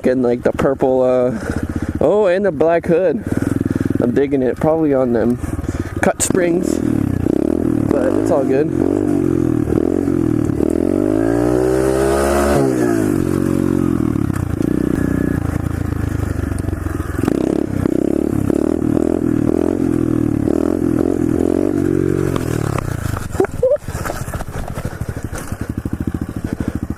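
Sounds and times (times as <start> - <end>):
motorbike engine revving: 0.0 - 26.9.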